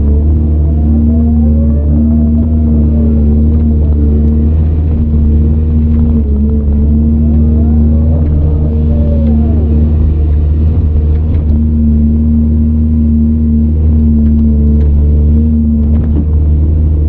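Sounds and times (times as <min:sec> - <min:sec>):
high machine whine: 0:00.0 - 0:15.6
excavator diesel engine under load: 0:00.0 - 0:17.0.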